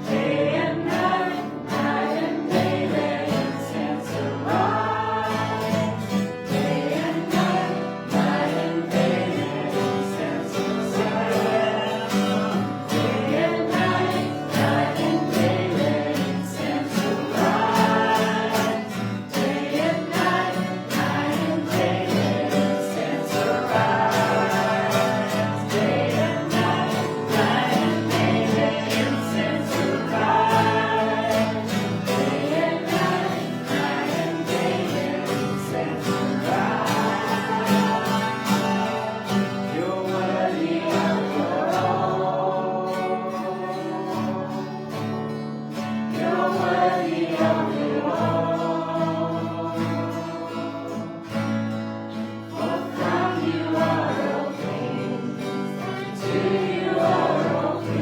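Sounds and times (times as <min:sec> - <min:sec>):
group singing worship song: 0:00.0 - 0:58.0.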